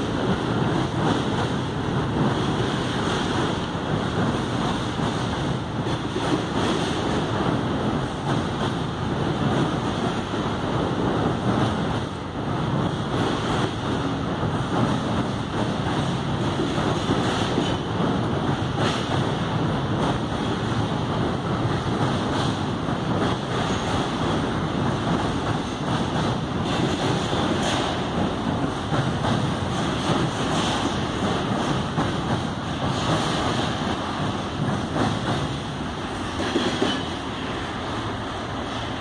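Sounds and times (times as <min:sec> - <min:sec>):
train wheels roaring on rails: 0:00.0 - 0:39.0.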